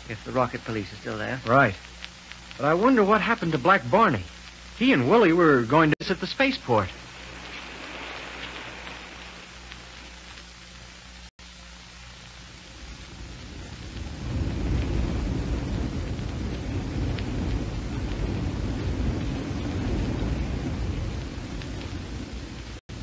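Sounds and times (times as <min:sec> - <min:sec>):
rocket engines rumbling: 0:00.0 - 0:11.3, 0:11.9 - 0:23.0
faint hiss: 0:00.0 - 0:23.0.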